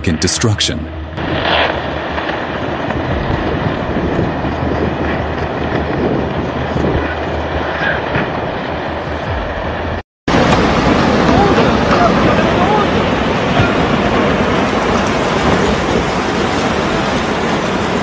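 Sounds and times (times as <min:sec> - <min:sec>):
landslide rumbling: 0:00.0 - 0:18.0.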